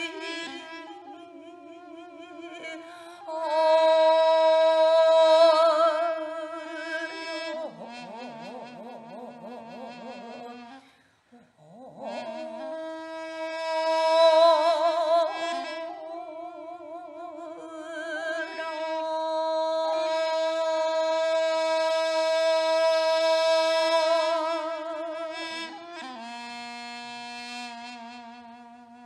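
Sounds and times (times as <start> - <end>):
woman singing with vibrato: 0.0 - 29.0.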